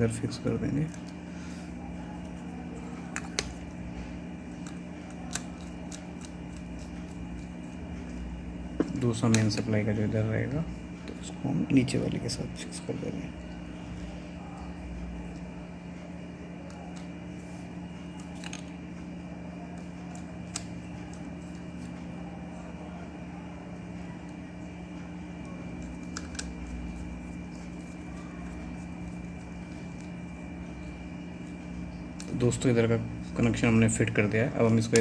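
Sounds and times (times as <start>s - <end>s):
low hum with high whine: 0.0s - 35.0s.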